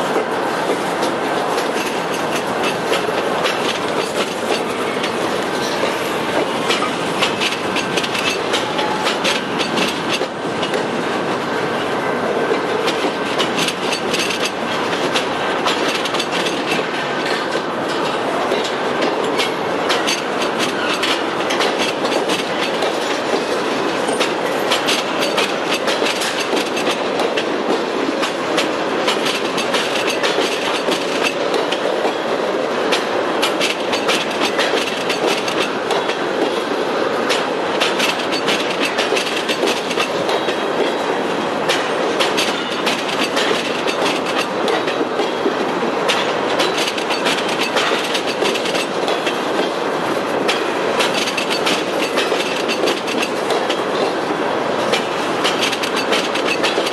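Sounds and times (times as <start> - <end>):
steel wheels rumbling on rail: 0.0 - 56.9
wheels clicking at rail joints: 0.0 - 56.9.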